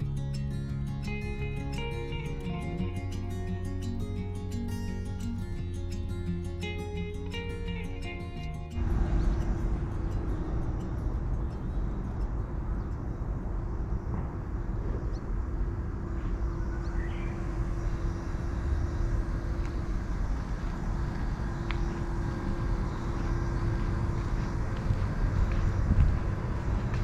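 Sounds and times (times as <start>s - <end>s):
faint steady hum: 0.0s - 27.0s
low outdoor rumble: 0.0s - 27.0s.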